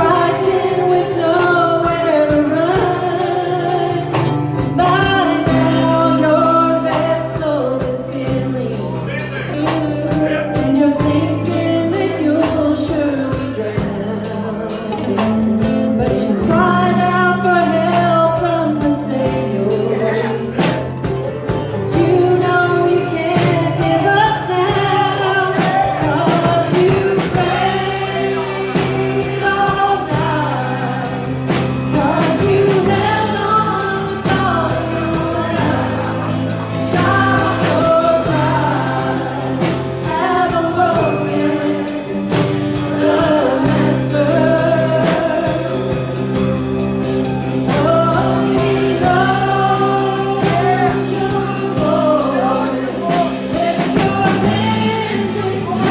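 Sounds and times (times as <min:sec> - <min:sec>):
band with bass and drums: 0:00.0 - 0:55.9
voices singing: 0:00.0 - 0:55.9.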